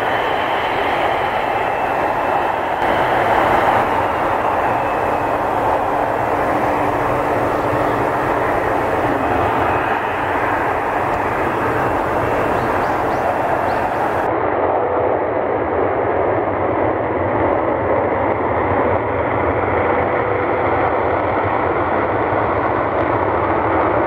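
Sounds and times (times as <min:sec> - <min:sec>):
jet engines roaring and whining: 0:00.0 - 0:24.0.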